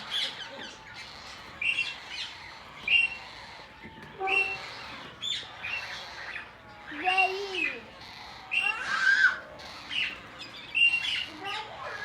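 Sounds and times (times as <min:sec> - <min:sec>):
parrots chirping: 0:00.0 - 0:12.0.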